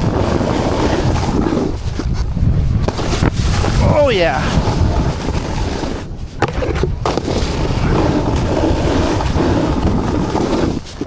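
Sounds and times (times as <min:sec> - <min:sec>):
skis scraping over snow: 0:00.0 - 0:11.0
wind on microphone: 0:00.0 - 0:11.0.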